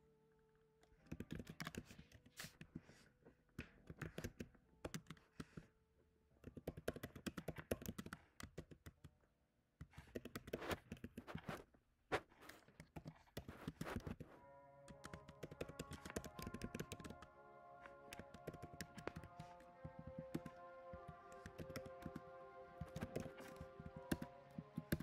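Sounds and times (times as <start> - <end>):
typing on keyboard: 0.9 - 2.8, 3.7 - 5.6, 6.4 - 9.2, 9.8 - 11.5, 12.7 - 25.0.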